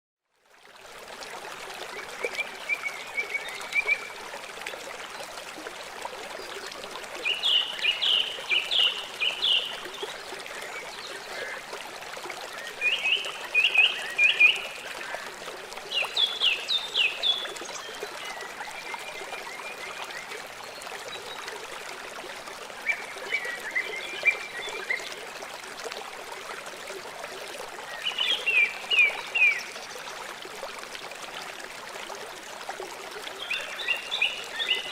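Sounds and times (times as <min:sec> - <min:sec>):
stream water running: 0:00.3 - 0:34.9.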